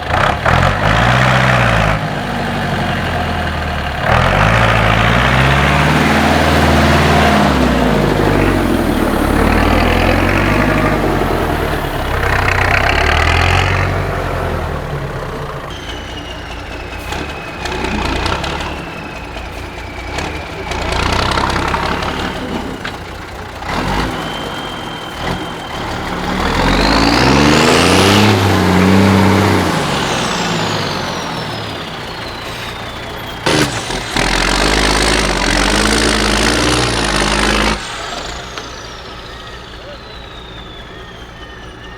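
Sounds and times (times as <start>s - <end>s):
diesel truck engines revving: 0.0s - 41.9s.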